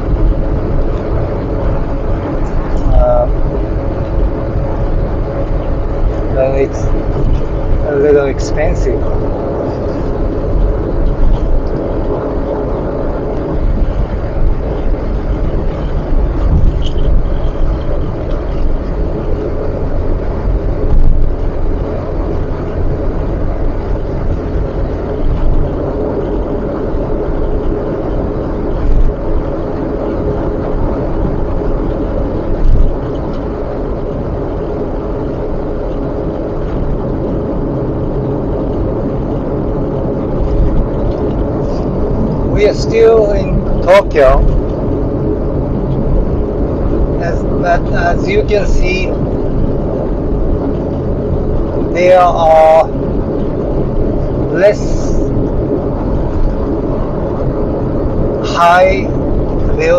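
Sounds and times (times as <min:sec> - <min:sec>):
car tyre and engine rumble: 0:00.0 - 0:59.9.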